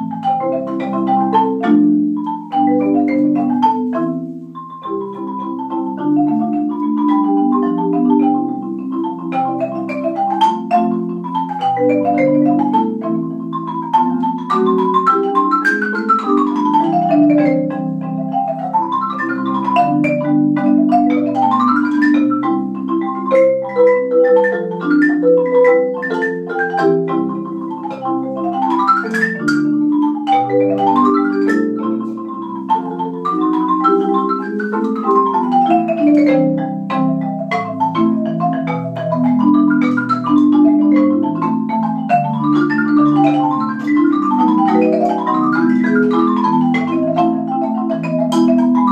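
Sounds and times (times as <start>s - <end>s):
marimba played four-hand: 0.0s - 48.9s.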